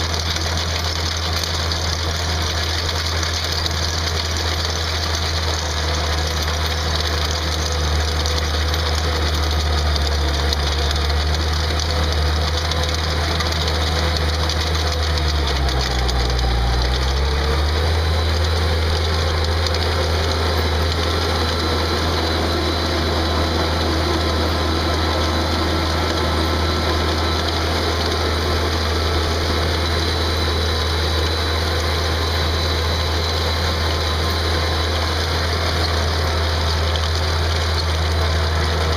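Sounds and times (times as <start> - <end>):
trencher engine running: 0.0 - 38.9.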